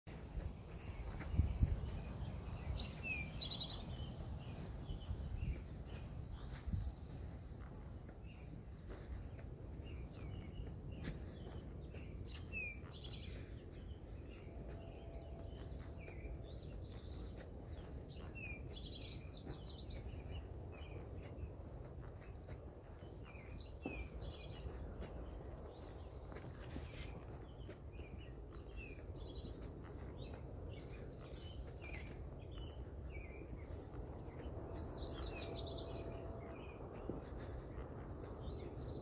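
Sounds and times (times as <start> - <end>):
songbirds chirping: 0.1 - 39.0
steady low rumble: 0.1 - 39.0.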